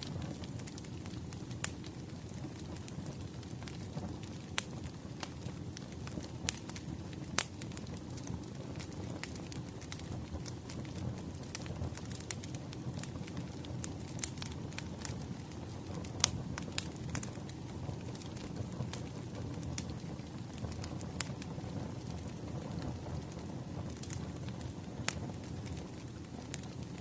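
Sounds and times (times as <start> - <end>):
fire pops and snaps: 0.0 - 27.0
low rumble of burning logs: 0.0 - 27.0.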